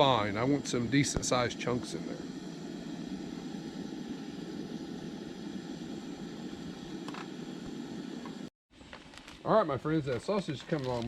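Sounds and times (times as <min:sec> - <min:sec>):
camp stove burner roaring: 0:00.0 - 0:11.0.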